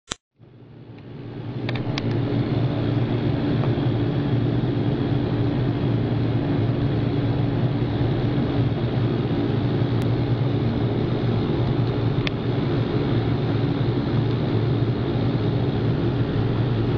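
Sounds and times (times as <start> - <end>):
turboprop engines droning in cabin: 0.4 - 16.9.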